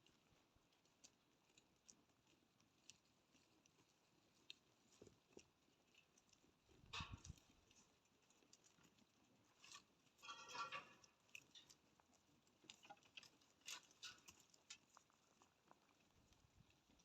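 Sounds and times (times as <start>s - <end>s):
faint clicks and crackles: 0.0s - 17.0s
faint rustle: 0.0s - 17.0s.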